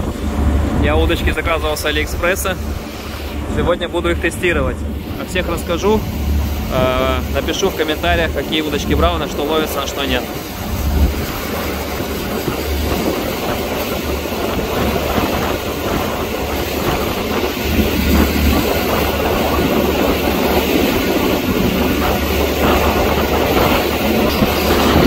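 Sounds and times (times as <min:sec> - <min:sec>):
motorboat engine drone: 0:00.0 - 0:25.0
water slapping against hull: 0:00.0 - 0:25.0.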